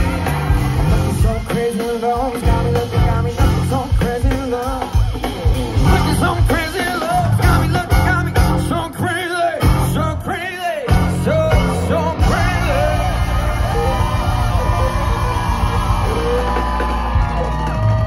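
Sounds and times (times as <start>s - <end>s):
live rock band: 0.0s - 18.0s.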